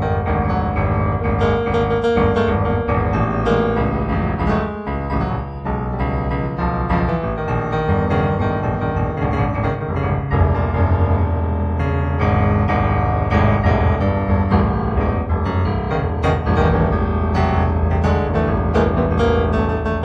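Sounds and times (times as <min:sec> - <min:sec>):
improvised piano music: 0:00.0 - 0:20.0
sustained low bass notes: 0:00.0 - 0:20.0.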